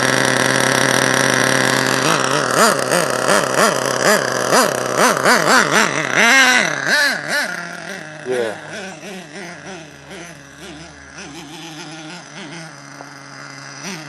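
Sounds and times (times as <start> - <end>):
model engine idling and revving: 0.0 - 14.0.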